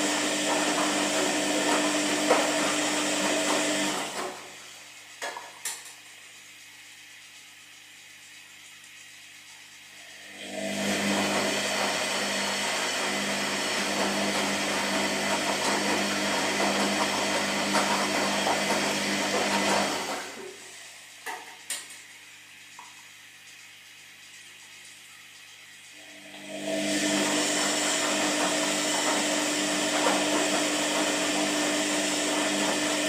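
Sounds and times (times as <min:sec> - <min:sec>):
washing machine drum churning: 0:00.0 - 0:05.6, 0:10.3 - 0:23.0, 0:23.6 - 0:33.0.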